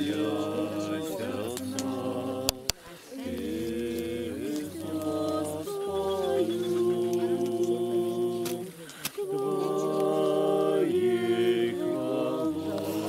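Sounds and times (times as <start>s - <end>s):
group of people singing: 0.0s - 13.0s.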